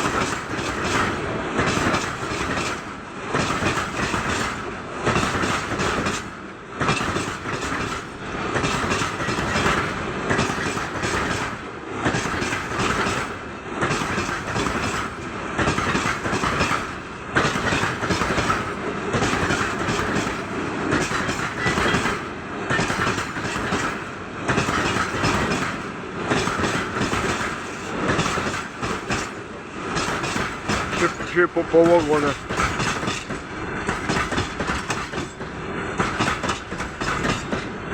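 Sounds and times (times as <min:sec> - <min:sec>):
train rumble: 0:00.0 - 0:37.9
wheels clacking over rail joints: 0:00.0 - 0:37.9.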